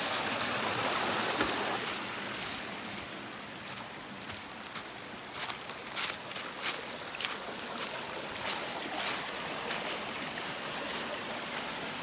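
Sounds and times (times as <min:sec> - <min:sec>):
creek splashing over rocks: 0:00.0 - 0:12.0
footsteps in dry leaves: 0:01.8 - 0:11.8.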